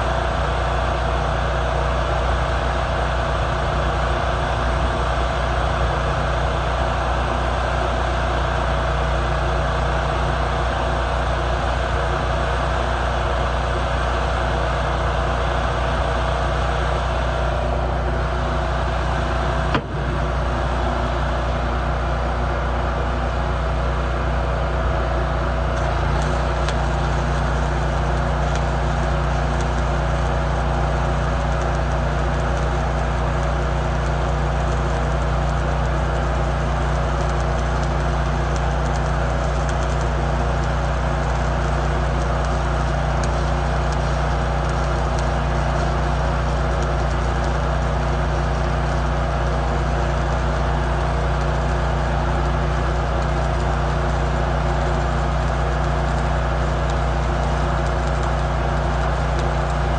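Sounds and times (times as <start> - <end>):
machine humming with hiss: 0.0 - 59.9.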